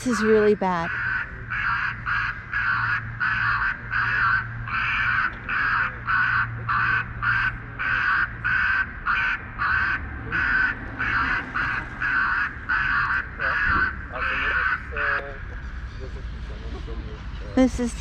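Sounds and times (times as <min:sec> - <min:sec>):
harsh crow-like electronic call: 0:00.1 - 0:15.2.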